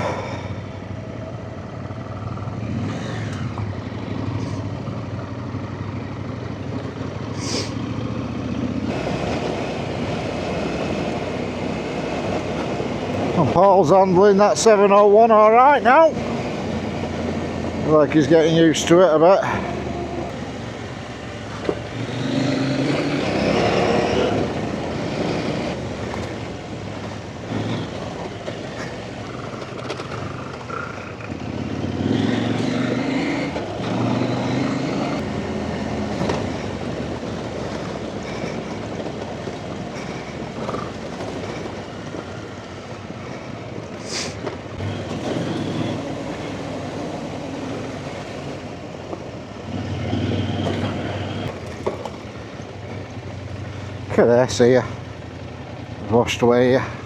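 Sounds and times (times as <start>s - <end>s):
motorcycle engine revving: 0.0s - 57.0s
riding noise: 0.0s - 57.0s.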